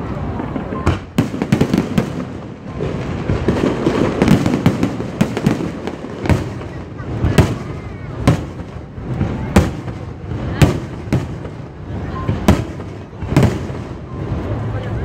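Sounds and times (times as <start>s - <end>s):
fireworks bangs: 0.0s - 14.8s
fireworks crackle: 0.0s - 15.0s.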